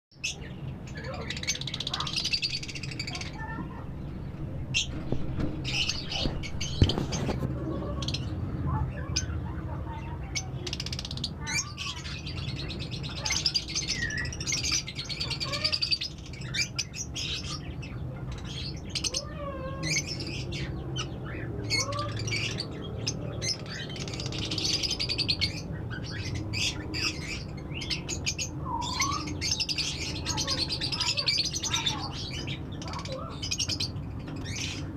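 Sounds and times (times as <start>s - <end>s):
lovebirds twittering: 0.1s - 34.9s.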